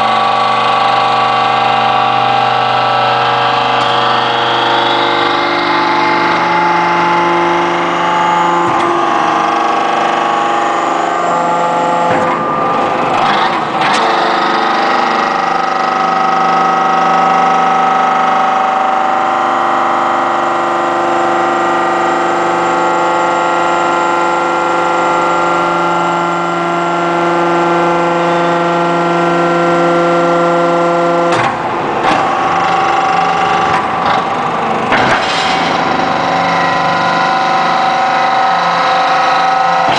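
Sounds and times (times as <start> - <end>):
hydraulic press humming: 0.0 - 39.9.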